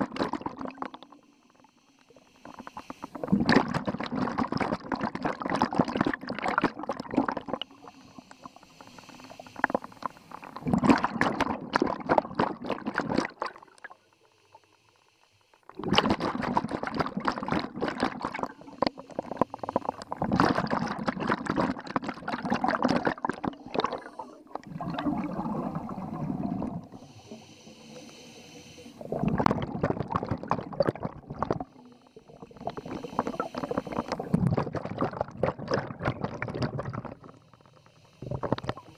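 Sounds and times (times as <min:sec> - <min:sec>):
scuba regulator bubbles gurgling: 0:00.0 - 0:14.2, 0:15.7 - 0:38.9.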